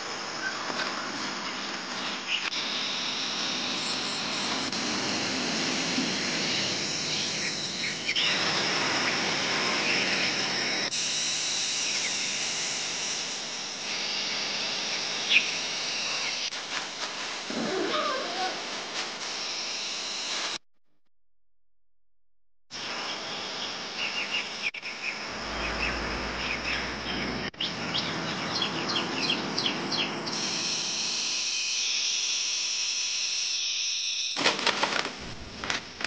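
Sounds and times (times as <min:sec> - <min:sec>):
steady outdoor hiss: 0:00.0 - 0:20.6, 0:22.8 - 0:31.3.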